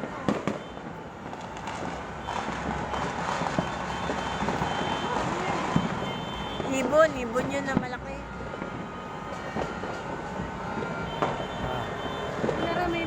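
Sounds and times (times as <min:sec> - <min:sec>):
background din of celebration: 0:00.0 - 0:13.0.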